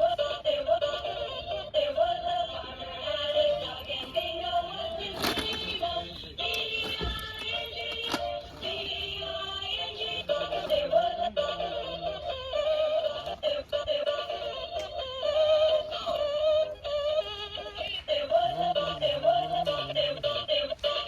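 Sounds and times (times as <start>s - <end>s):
synthetic singing voice: 0.0s - 21.0s.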